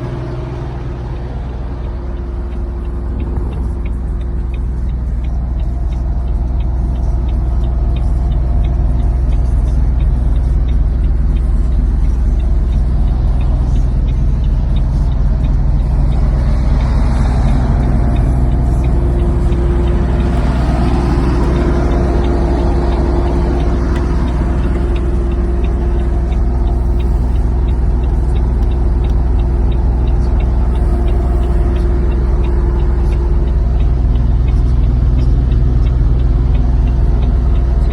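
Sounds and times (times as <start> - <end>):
diesel engine humming: 0.0 - 37.9
steady tone: 0.0 - 37.9.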